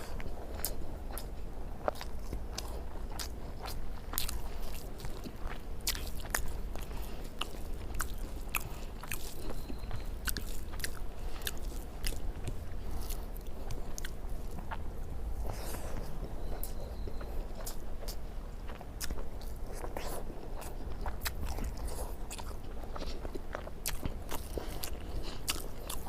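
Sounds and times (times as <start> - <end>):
low steady hum: 0.0 - 26.0
person chewing food: 0.0 - 26.0.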